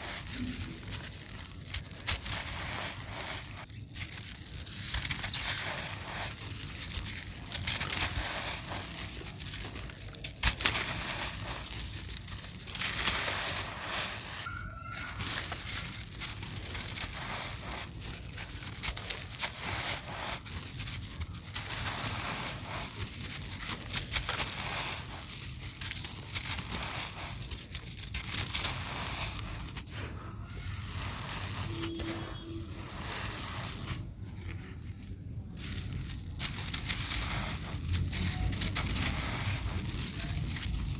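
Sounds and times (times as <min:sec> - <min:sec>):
dry cement crunching: 0:00.0 - 0:40.9.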